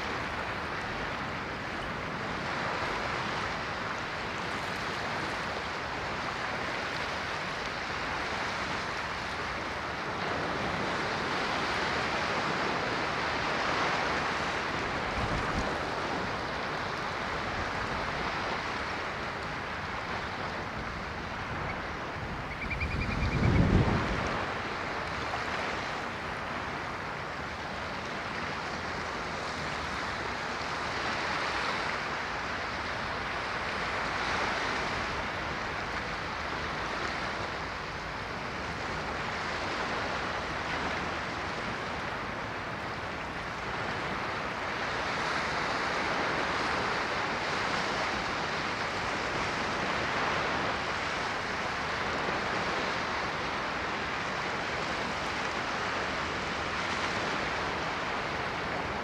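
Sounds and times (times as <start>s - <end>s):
ocean surf washing in: 0.0s - 59.0s.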